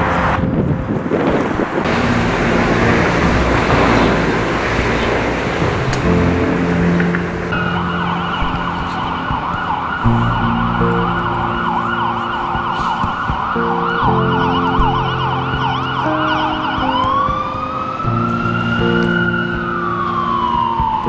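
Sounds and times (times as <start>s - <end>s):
background music with low notes: 0.0s - 21.0s
emergency siren yelping and wailing: 1.8s - 21.0s.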